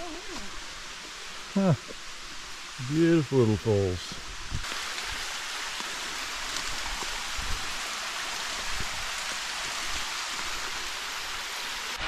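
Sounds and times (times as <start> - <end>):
waterfall trickling: 0.0 - 12.0.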